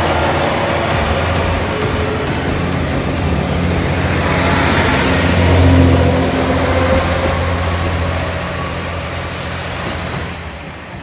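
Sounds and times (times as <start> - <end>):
diesel train engine hum: 0.0 - 11.0
train wheels on rails: 0.0 - 11.0.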